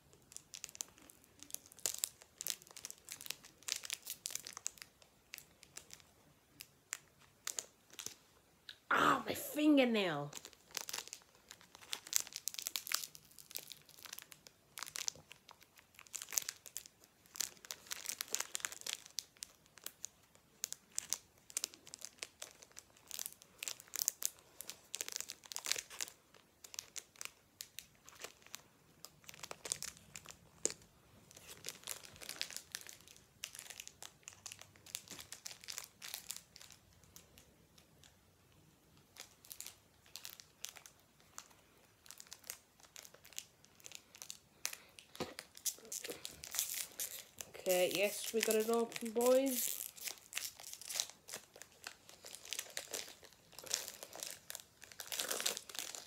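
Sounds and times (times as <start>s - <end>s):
foil wrapper crinkling: 0.0s - 8.2s, 9.6s - 38.2s, 38.8s - 56.0s.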